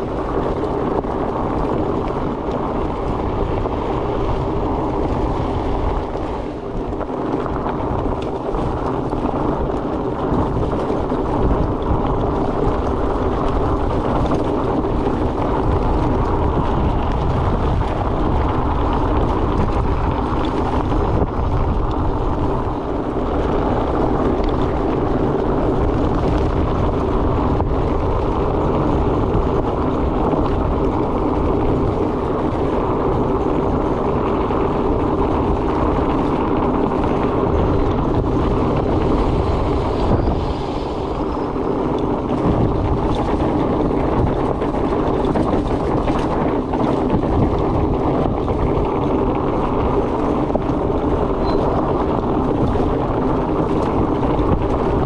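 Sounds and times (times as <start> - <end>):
bike tyres droning on dirt: 0.0 - 55.0
wind noise on microphone: 0.0 - 55.0.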